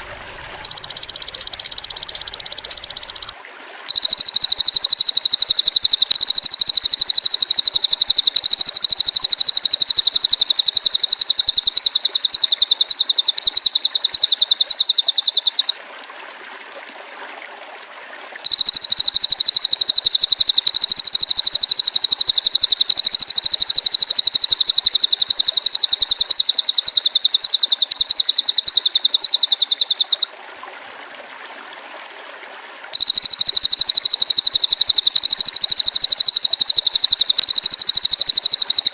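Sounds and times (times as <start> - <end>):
insect shrill buzzing trill: 0.6 - 15.8, 18.4 - 30.3, 33.0 - 38.9.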